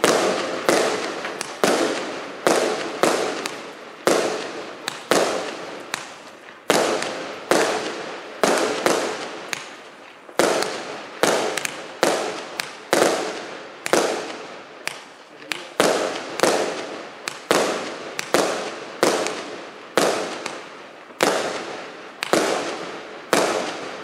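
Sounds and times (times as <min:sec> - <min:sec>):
fireworks shots firing: 0:00.0 - 0:24.0.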